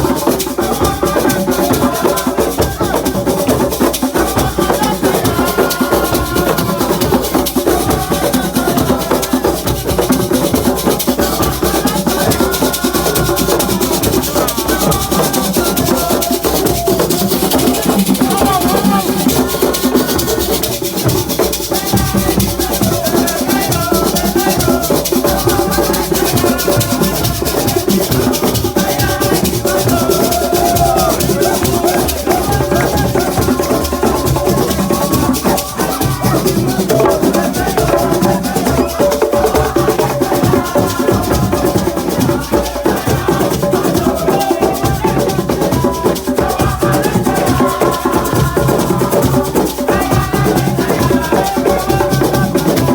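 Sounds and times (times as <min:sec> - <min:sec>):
group singing: 0:00.0 - 0:52.9
rattling shaker: 0:00.0 - 0:52.9
steady drumming: 0:00.0 - 0:52.9.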